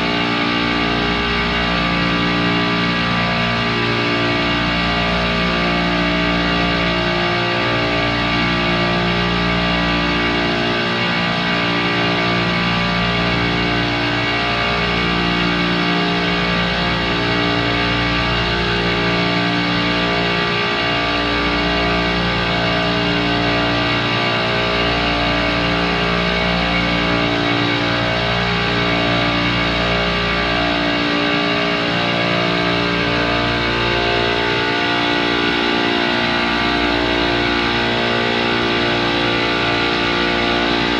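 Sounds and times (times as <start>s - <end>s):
distorted electric guitar chords: 0.0s - 40.9s.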